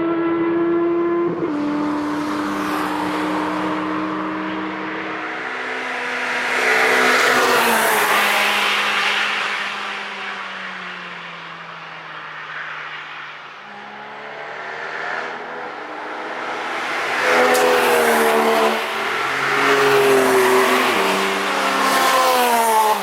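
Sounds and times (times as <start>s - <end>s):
car approaching: 0.2s - 23.0s
car passing at speed: 0.2s - 23.0s.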